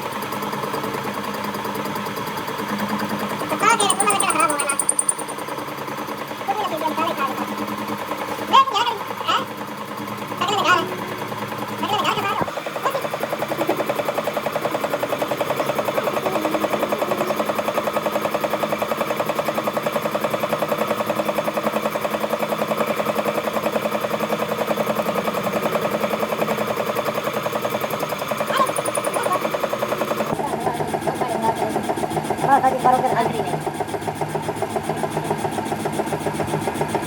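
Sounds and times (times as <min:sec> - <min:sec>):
machine pulsing steadily: 0:00.0 - 0:37.0.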